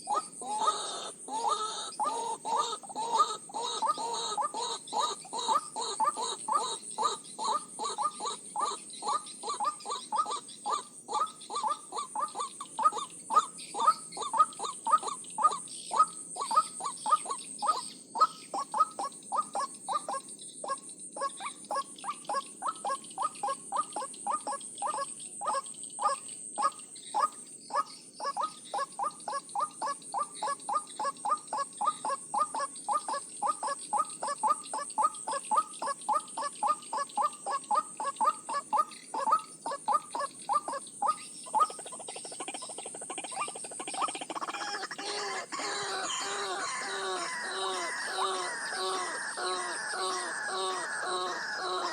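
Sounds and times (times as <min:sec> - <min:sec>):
waterhen calling: 0:00.0 - 0:20.2, 0:21.2 - 0:51.9.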